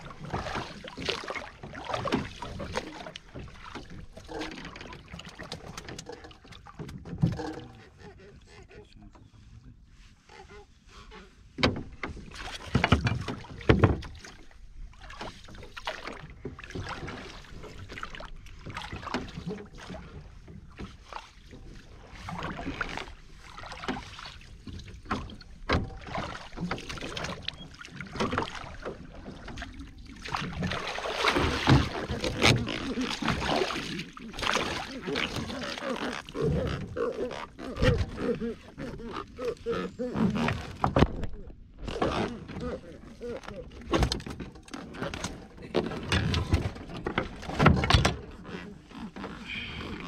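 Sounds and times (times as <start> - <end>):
water splashing around a boat: 0.0 - 50.0.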